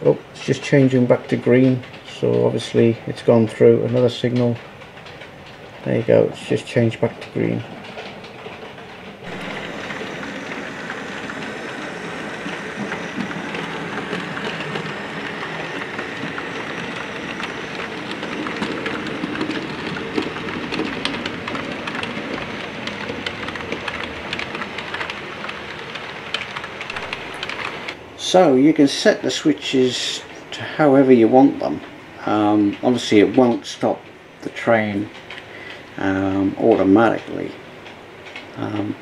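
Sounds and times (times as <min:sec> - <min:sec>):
wheels clicking over rail joints: 0:00.0 - 0:28.0, 0:31.2 - 0:39.0
model train rumble: 0:00.0 - 0:39.0.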